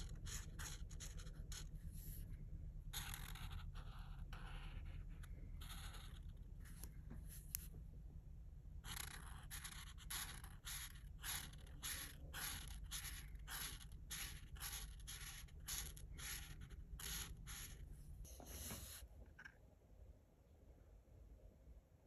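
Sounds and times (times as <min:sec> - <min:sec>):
marker scratching on paper: 0:00.0 - 0:02.3, 0:02.9 - 0:07.7, 0:08.8 - 0:19.5.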